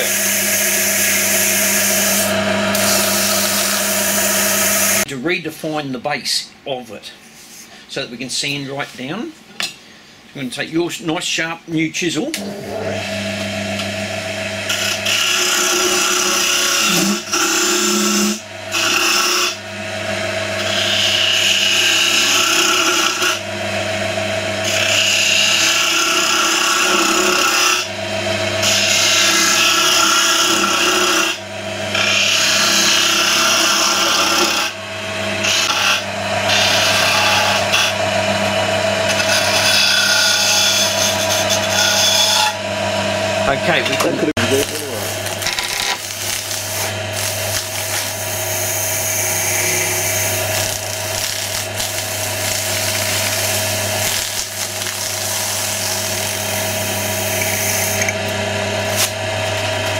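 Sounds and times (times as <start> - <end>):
chisel scraping spinning wood: 0.0 - 5.1, 12.9 - 23.6, 24.3 - 59.9
lathe motor hum: 0.0 - 5.1, 12.3 - 59.9.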